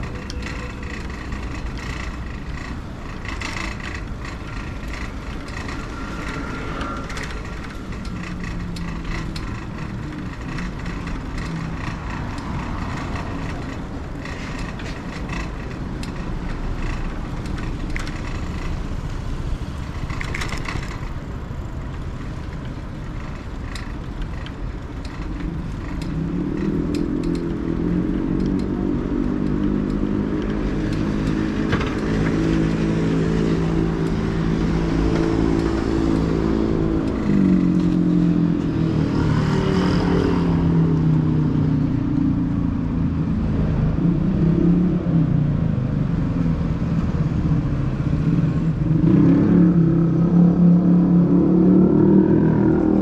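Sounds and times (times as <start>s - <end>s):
passing cars: 0.0s - 53.0s
vehicle engine approaching: 0.0s - 53.0s.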